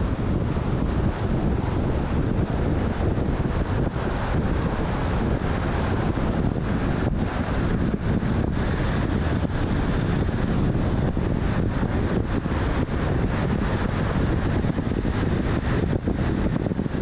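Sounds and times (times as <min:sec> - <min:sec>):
car wind and road noise: 0:00.0 - 0:17.0
wind buffeting microphone: 0:00.0 - 0:17.0.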